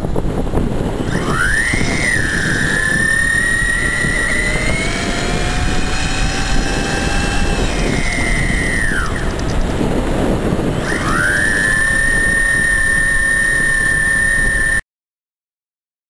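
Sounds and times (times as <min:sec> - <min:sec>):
electric motor whine: 0:00.0 - 0:14.8
wind on microphone: 0:00.0 - 0:14.8.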